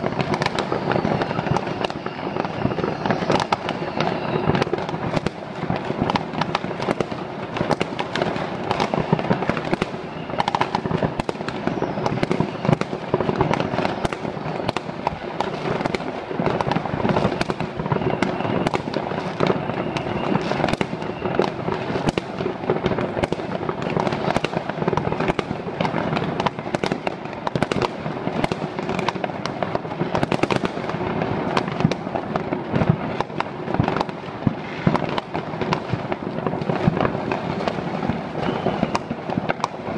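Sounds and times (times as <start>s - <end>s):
fireworks and firecrackers crackling: 0.0s - 39.9s.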